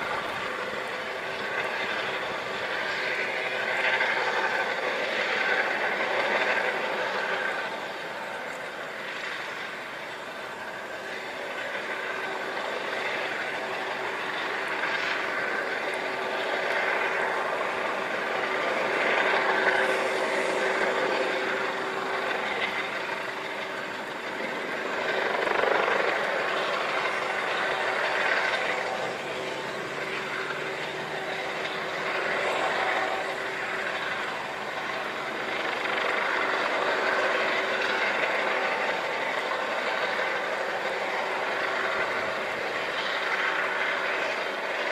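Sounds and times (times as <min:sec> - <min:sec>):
helicopter hovering: 0:00.0 - 0:44.9.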